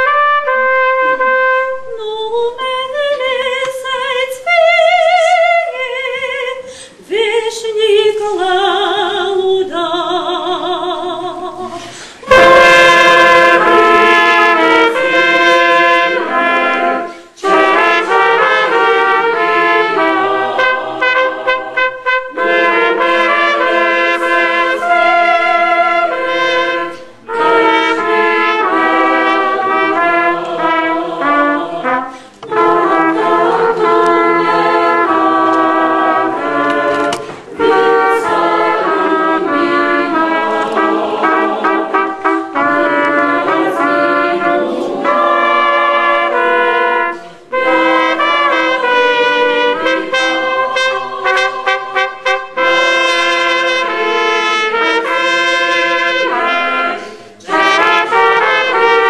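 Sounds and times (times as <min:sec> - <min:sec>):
trumpets playing hymn melody: 0:00.0 - 0:02.0, 0:11.7 - 0:59.0
church choir singing: 0:08.1 - 0:59.0.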